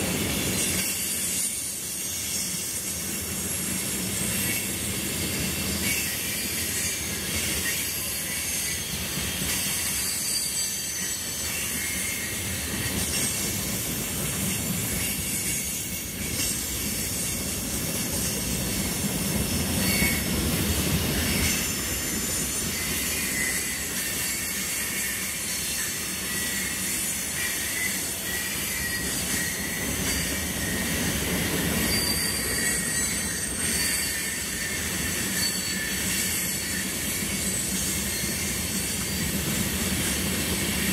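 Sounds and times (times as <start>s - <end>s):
train wheels rumbling on rail: 0.0s - 40.9s
high wheel squeals: 3.5s - 40.8s.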